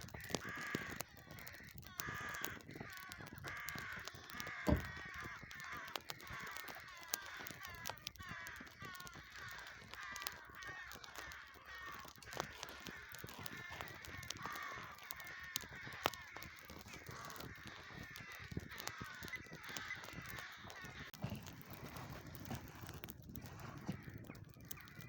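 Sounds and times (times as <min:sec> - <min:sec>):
birds cawing: 0:00.0 - 0:25.0
sharp clicks: 0:00.0 - 0:25.0.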